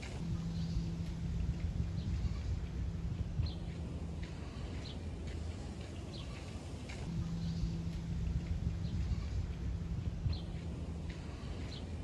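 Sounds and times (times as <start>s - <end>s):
low outdoor rumble: 0.0s - 12.0s
small birds chirping: 0.2s - 12.0s.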